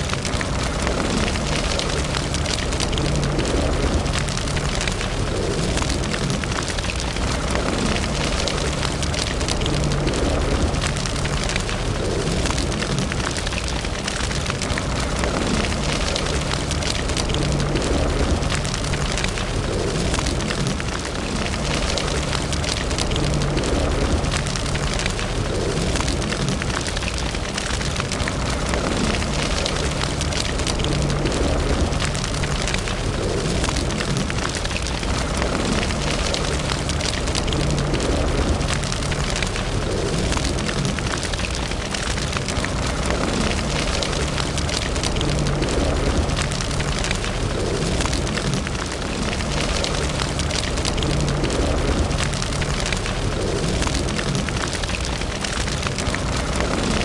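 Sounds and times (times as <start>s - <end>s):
fire crackling and popping: 0.0s - 57.0s
low fire rumble: 0.0s - 57.0s.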